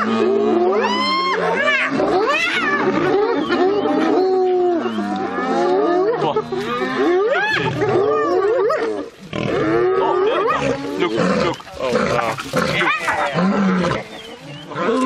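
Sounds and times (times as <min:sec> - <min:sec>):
hyenas whooping and giggling: 0:00.0 - 0:09.1, 0:09.7 - 0:15.0
lioness snarling: 0:00.0 - 0:15.0.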